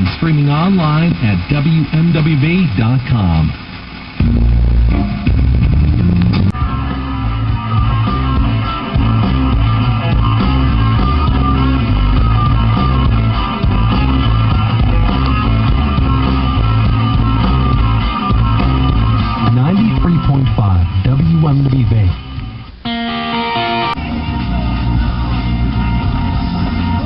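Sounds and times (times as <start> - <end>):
rock music with guitar on radio: 0.0 - 27.0.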